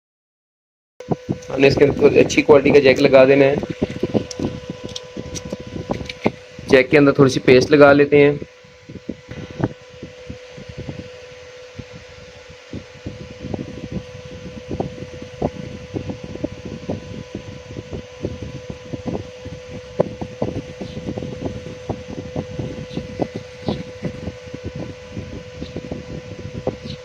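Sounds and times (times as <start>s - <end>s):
steady mechanical hum: 1.0s - 27.0s.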